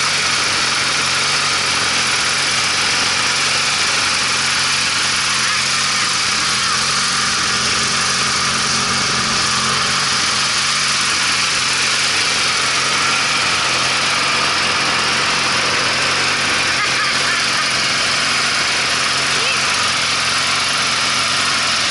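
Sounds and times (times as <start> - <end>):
lawn mower engine running: 0.0 - 21.9.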